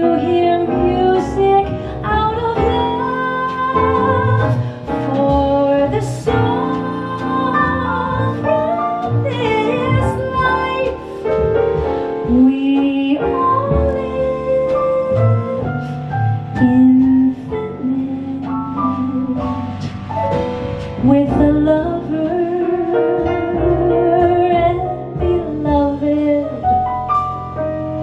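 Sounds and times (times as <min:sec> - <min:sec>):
woman singing jazz ballad: 0:00.0 - 0:20.1, 0:20.9 - 0:26.9
piano accompaniment: 0:00.0 - 0:28.0.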